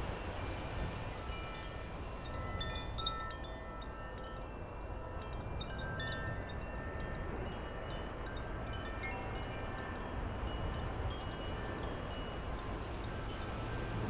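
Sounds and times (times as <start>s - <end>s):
wind chimes ringing: 0.0s - 14.0s.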